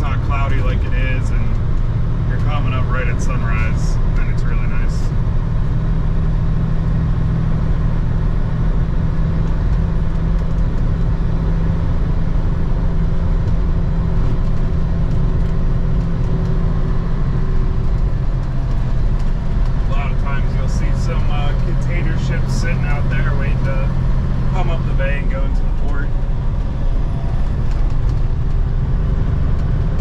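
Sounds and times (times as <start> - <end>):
road and tyre noise: 0.0 - 30.0
truck diesel engine hum: 0.0 - 30.0.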